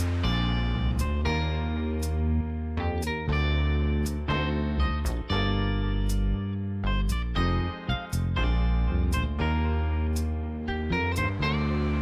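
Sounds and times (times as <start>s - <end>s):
bass line: 0.0s - 12.0s
electric piano: 0.0s - 12.0s
plucked guitar: 0.0s - 12.0s.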